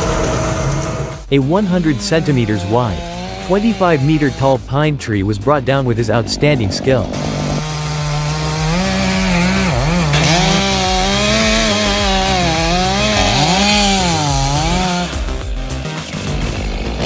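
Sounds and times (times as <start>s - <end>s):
chainsaw cutting wood: 0.0s - 4.8s, 6.4s - 17.0s.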